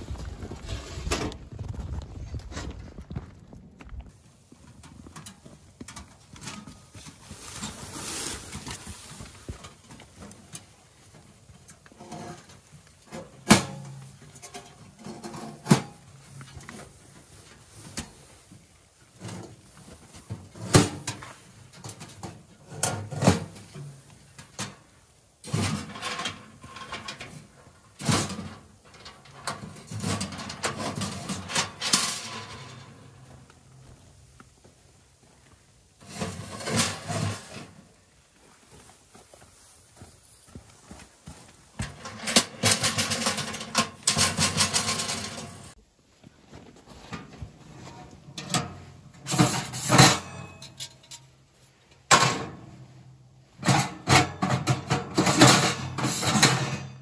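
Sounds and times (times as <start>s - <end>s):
camp gear knocking and clattering: 0.0s - 34.5s, 35.8s - 38.2s, 39.6s - 57.0s.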